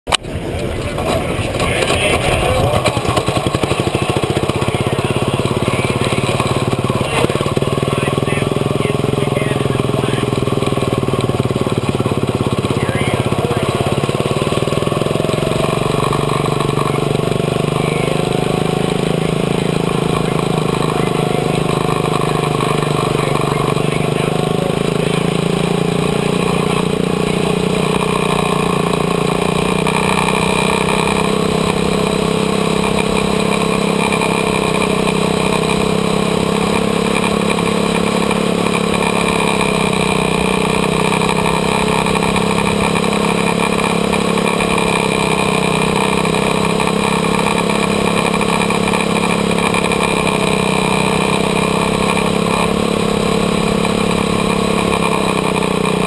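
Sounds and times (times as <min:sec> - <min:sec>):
small race car engine running: 0:00.1 - 0:56.0.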